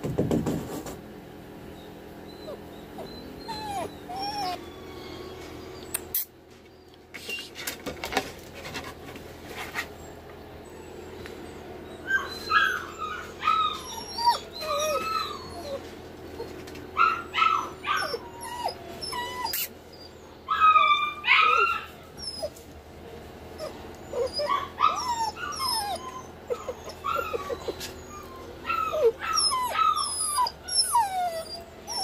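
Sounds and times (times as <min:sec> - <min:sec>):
puppy whining and yelping: 0:01.7 - 0:07.5, 0:10.0 - 0:22.6, 0:23.5 - 0:32.0.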